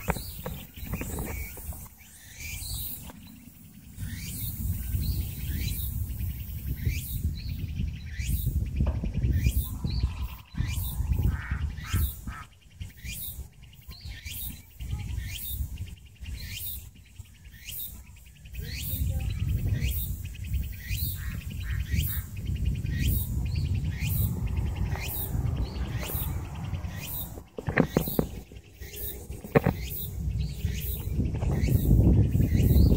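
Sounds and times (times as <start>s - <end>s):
bird chirping: 0.0s - 32.9s
wind rumble on microphone: 0.0s - 32.9s.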